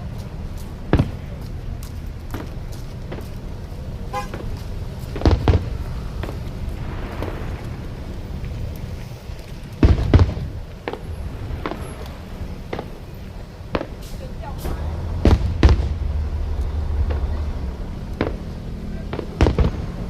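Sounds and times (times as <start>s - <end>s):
fireworks pops and crackles: 0.0s - 20.0s
fireworks booming: 0.8s - 20.0s.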